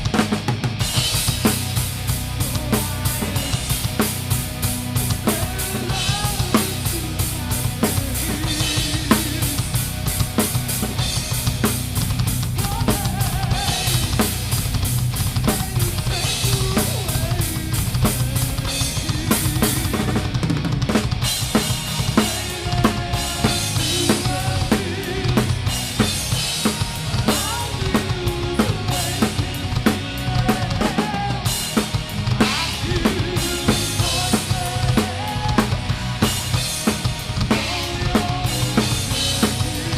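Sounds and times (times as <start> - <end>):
electric guitars: 0.0 - 39.9.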